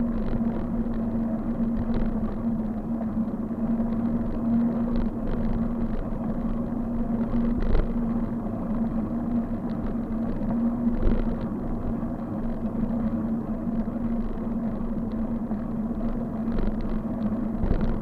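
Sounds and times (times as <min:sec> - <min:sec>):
bike riding noise on road: 0:00.0 - 0:18.0.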